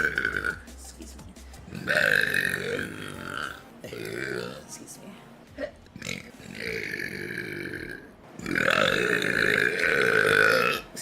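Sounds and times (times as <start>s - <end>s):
person burping: 0.0s - 0.6s, 1.7s - 4.6s, 5.5s - 11.0s.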